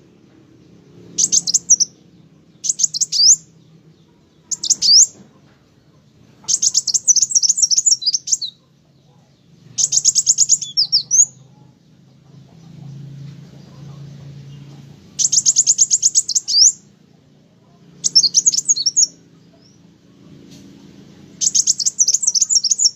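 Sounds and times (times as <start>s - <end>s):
faint low hum: 0.0s - 22.9s
bird chattering song: 0.7s - 22.9s.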